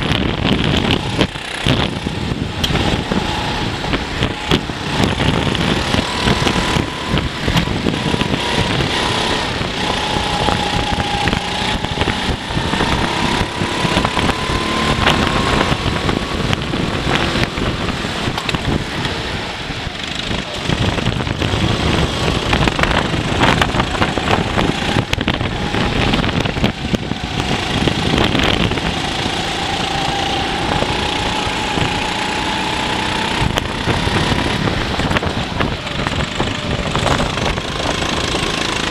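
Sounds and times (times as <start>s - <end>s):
go-kart engine whine: 0.0s - 38.9s.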